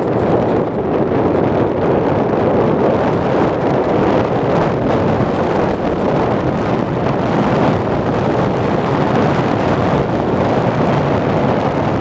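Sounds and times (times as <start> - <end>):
wind and motor rush: 0.0 - 12.0.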